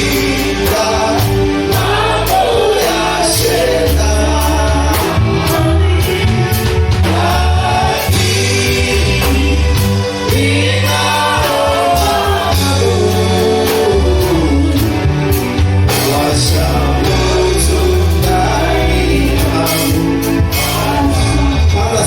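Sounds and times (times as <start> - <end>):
heavy bass line: 0.0 - 22.0
steady drum beat: 0.0 - 22.0
voices singing gospel song: 0.0 - 22.0.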